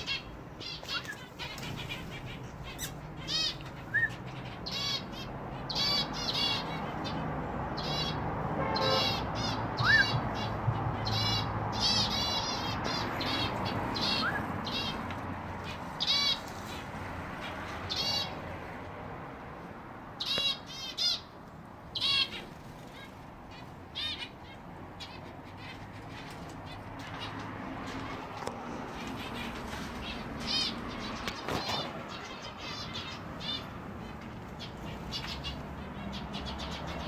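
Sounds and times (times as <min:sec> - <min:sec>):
pet birds chirping: 0:00.0 - 0:18.5, 0:20.2 - 0:37.0.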